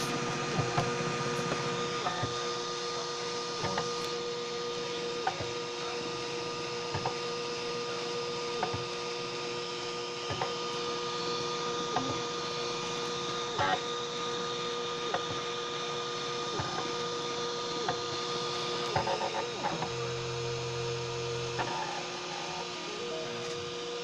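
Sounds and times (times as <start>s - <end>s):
stepper motors whining: 0.0s - 24.0s.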